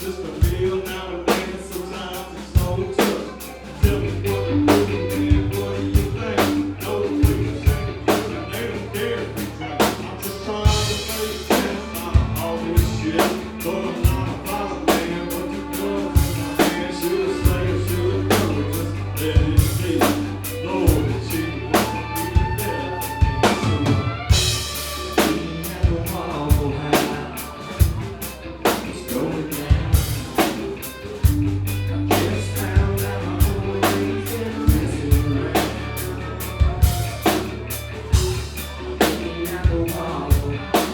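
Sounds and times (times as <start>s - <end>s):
heavy drum beat: 0.0s - 40.9s
live band playing: 0.0s - 40.9s.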